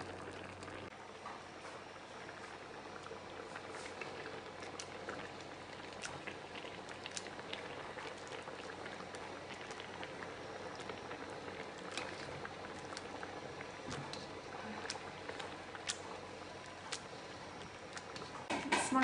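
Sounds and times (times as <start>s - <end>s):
bubbles popping: 0.0s - 0.9s, 2.6s - 18.5s
thick sauce simmering and bubbling: 0.0s - 18.6s.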